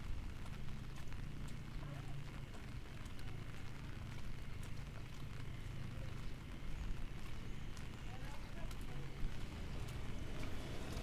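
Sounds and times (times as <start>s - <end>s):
rain drips and ticks: 0.0s - 11.0s.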